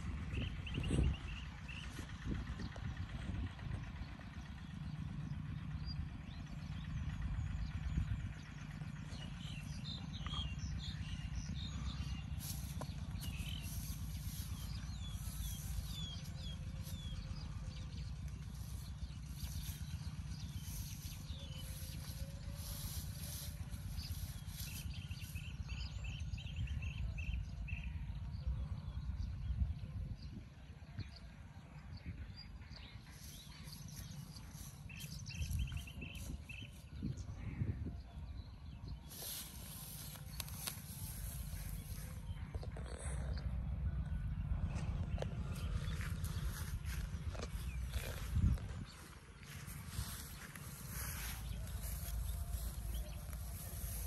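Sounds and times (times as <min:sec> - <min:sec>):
small birds chirping: 0:00.0 - 0:29.4, 0:32.0 - 0:54.0
steady low rumble: 0:00.0 - 0:54.0.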